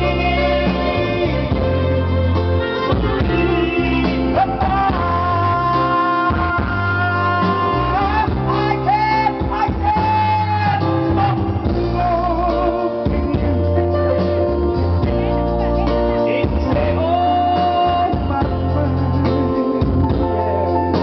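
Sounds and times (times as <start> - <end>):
guitar: 0.0 - 21.0
man singing pop ballad: 0.0 - 21.0
steady bass line: 0.0 - 21.0.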